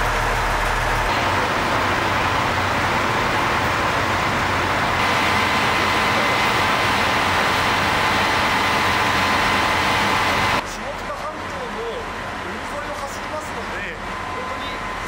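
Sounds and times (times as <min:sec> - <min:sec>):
diesel railcar engine running: 0:00.0 - 0:15.0.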